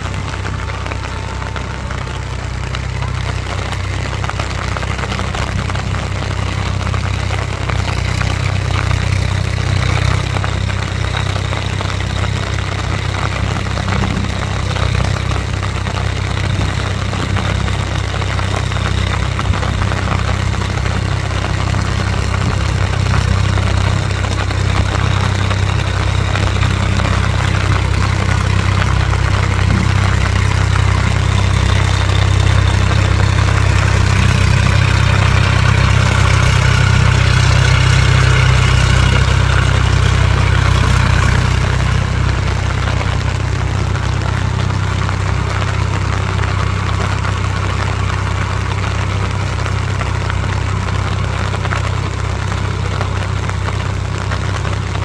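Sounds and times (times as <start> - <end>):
rain hiss: 0.0 - 55.0
tractor diesel engine running: 0.0 - 55.0.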